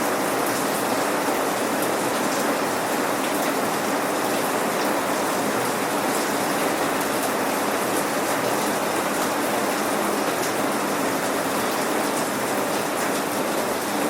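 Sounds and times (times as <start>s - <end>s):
rain pattering: 0.1s - 14.0s.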